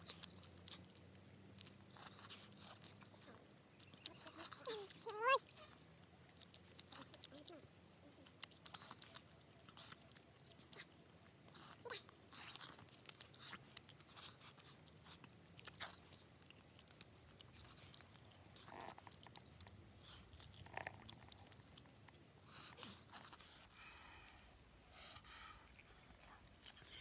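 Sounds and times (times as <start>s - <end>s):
person chewing and biting meat: 0.0s - 7.5s, 8.2s - 23.7s.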